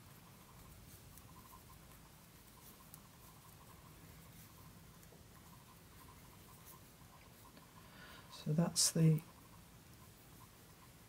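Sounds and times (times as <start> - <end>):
knitting needles ticking: 0.0 - 11.0.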